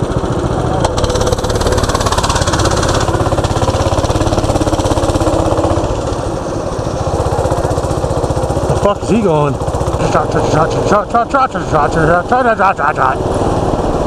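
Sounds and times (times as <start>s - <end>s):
mini bike engine revving: 0.0s - 14.0s.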